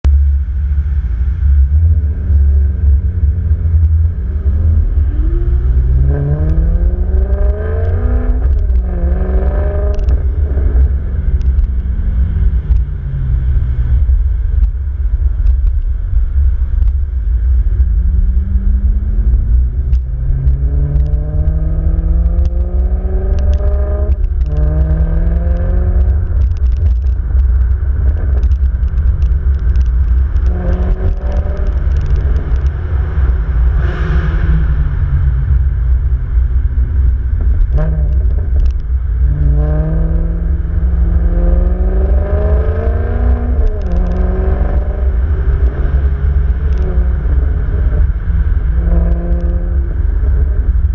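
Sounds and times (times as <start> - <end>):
wind and road noise rumble: 0.0 - 50.9
sports car engines accelerating: 0.1 - 50.9.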